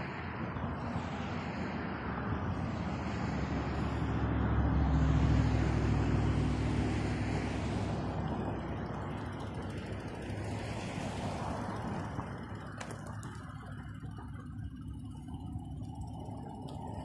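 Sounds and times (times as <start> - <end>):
vehicle passing close by: 0.0 - 17.0
wind rumble on microphone: 0.0 - 17.0.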